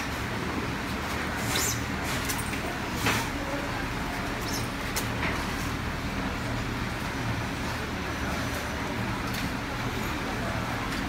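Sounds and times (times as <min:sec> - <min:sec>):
workshop background hum: 0:00.0 - 0:11.0.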